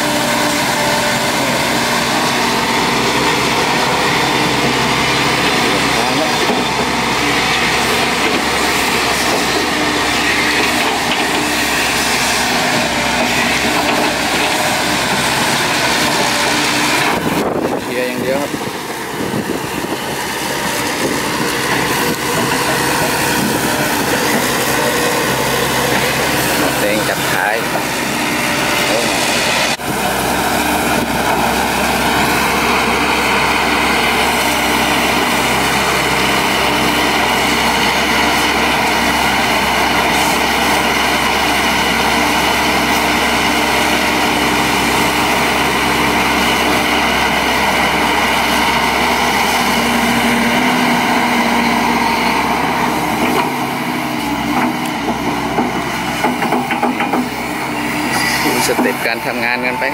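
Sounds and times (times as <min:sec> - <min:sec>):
excavator clattering: 0:00.0 - 0:59.9
excavator diesel engine running: 0:00.0 - 0:59.9.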